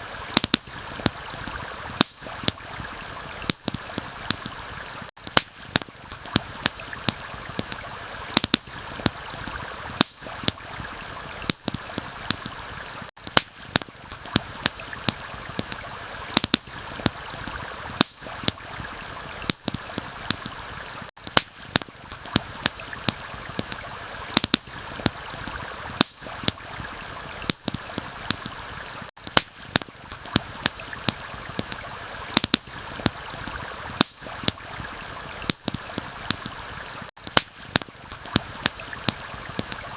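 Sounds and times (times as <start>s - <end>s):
campfire crackling and popping: 0.0s - 39.9s
stream flowing: 0.0s - 39.9s.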